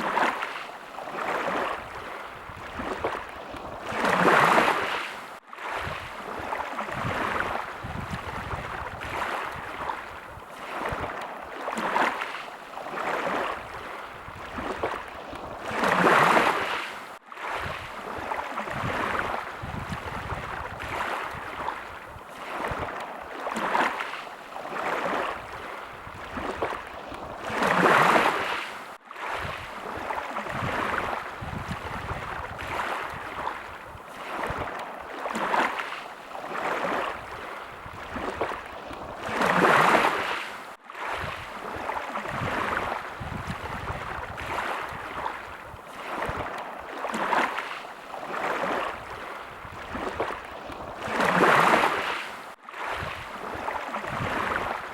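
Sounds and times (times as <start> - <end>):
small waves lapping: 0.0 - 54.9.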